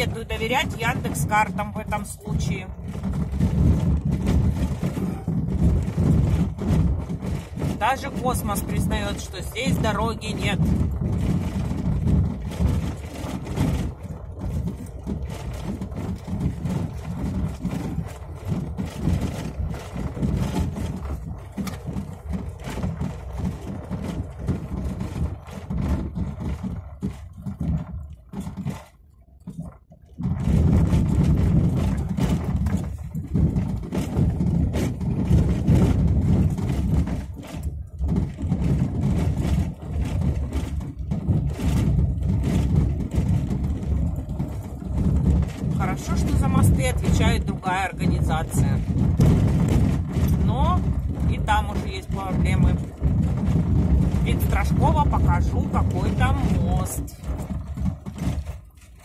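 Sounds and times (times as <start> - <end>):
car driving on rough road: 0.0 - 59.0
knocks and rattles from stones: 0.0 - 59.0.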